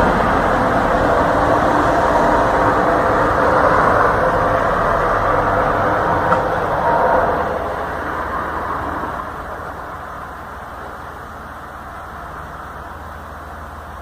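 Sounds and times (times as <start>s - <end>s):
loud low drone: 0.0s - 12.6s.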